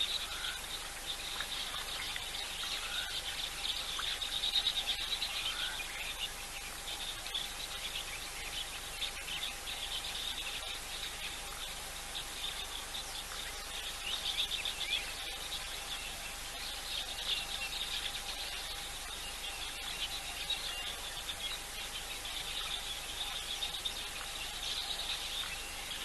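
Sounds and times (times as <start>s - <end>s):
insects: 0.0s - 26.0s
small birds chirping: 0.0s - 26.0s.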